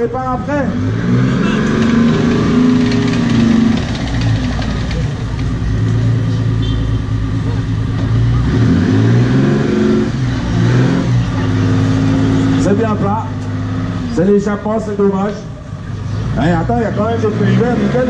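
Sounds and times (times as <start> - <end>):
tracked vehicle engine running: 0.0 - 18.0.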